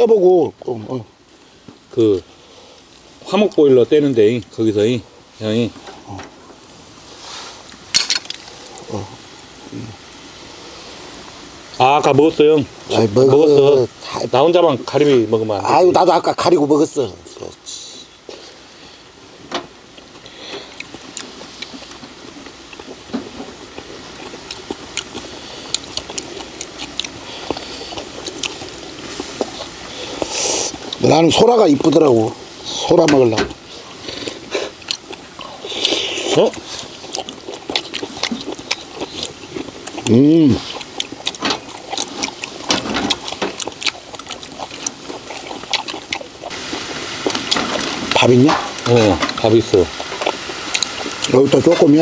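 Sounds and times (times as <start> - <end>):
clams sizzling on grill: 0.0 - 52.0.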